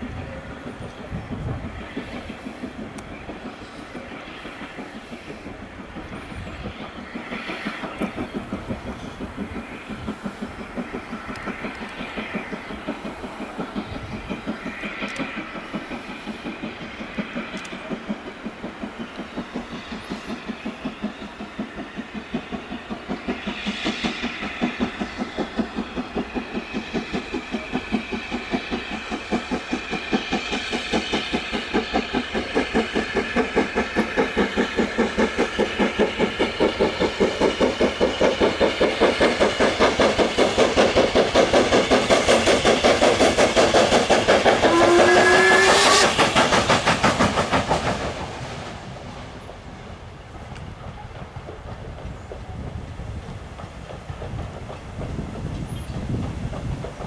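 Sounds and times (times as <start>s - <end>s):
steam hissing: 0.0s - 57.0s
steam locomotive exhaust beats: 0.0s - 57.0s.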